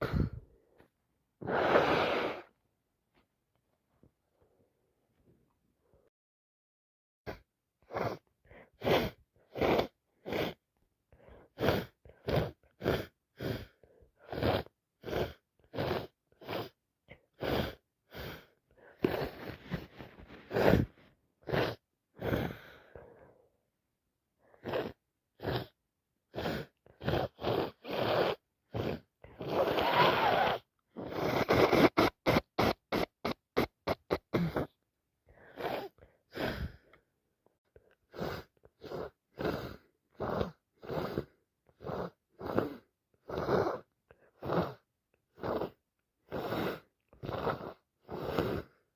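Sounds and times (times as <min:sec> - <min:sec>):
person sniffing and gasping: 0:00.0 - 0:00.6, 0:01.4 - 0:02.6, 0:07.3 - 0:10.6, 0:11.2 - 0:23.4, 0:24.5 - 0:37.1, 0:37.8 - 0:48.9.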